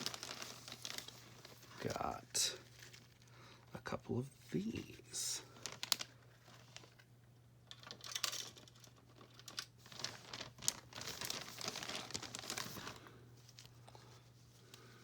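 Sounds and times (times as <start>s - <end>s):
plastic crinkling: 0.0s - 3.7s, 4.6s - 15.0s.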